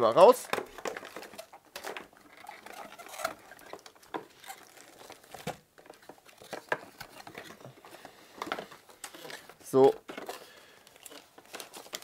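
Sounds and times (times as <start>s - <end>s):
cardboard rustling and crinkling: 0.0s - 12.0s.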